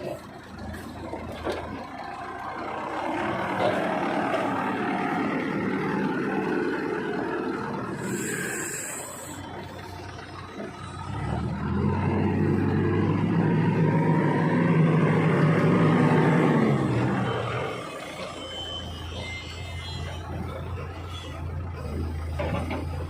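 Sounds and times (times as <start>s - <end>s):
diesel machinery engine: 0.0s - 23.0s.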